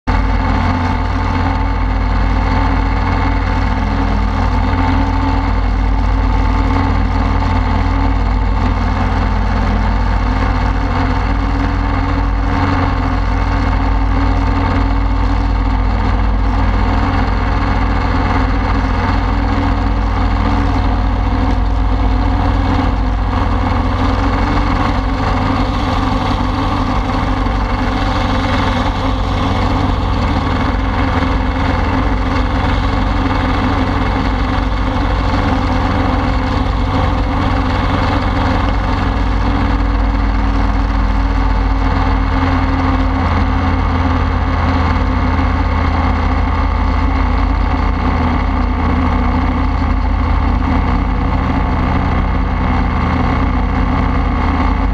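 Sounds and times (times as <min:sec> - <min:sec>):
aircraft engine and propeller: 0:00.1 - 0:54.9.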